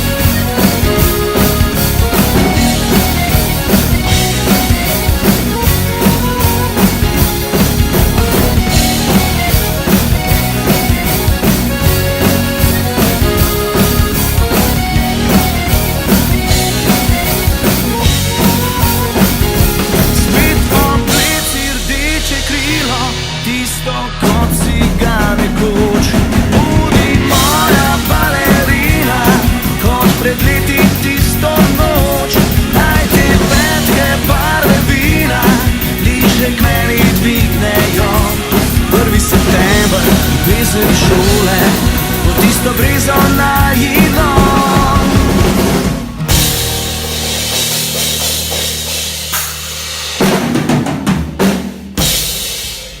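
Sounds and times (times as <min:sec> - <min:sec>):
pop-rock band music: 0:00.0 - 0:53.0.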